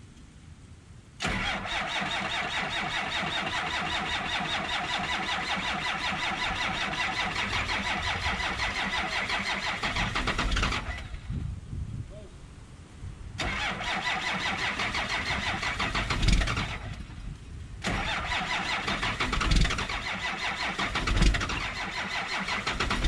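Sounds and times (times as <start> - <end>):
diesel engine cranking on starter: 1.2 - 11.3, 13.4 - 23.0.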